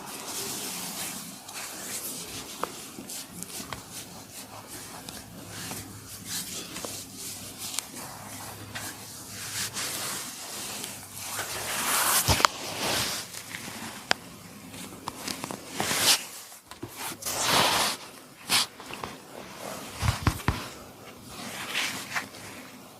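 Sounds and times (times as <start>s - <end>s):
hands rubbing over hair: 0.0s - 22.9s.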